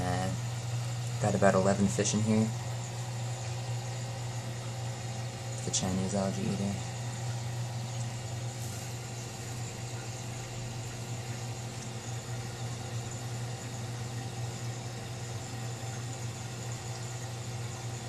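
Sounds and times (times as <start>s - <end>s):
aquarium pump humming: 0.0s - 18.0s.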